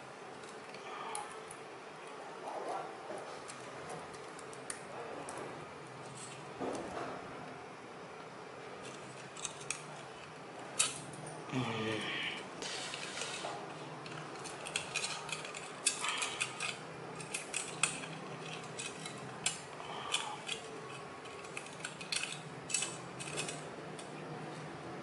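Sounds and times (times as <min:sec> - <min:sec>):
aluminium strips crinkling and clicking: 0:00.2 - 0:07.6, 0:08.7 - 0:11.1, 0:12.7 - 0:24.8.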